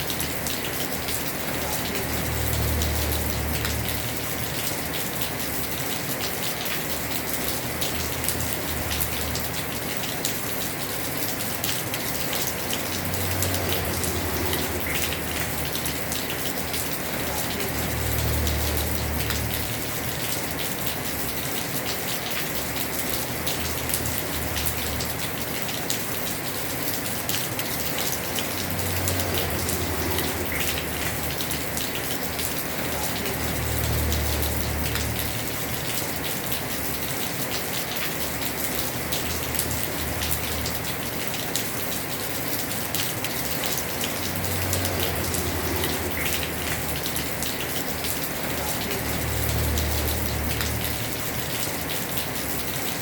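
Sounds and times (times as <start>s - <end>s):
heavy rain on a roof: 0.0s - 53.0s.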